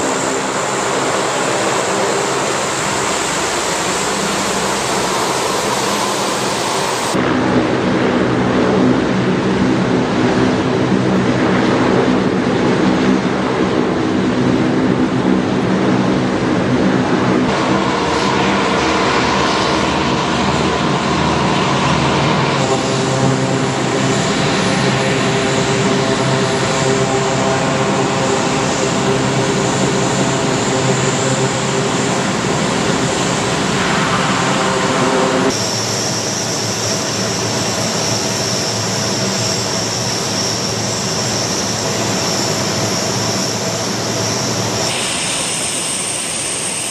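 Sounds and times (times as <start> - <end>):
turboprop engines droning: 0.0 - 46.9.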